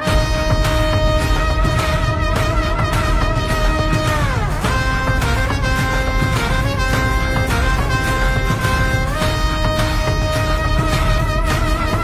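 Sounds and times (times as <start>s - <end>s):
background music with sliding notes: 0.0s - 12.0s.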